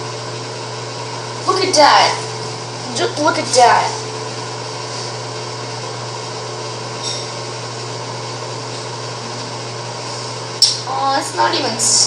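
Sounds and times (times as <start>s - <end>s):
fan whirring hum: 0.0s - 12.0s.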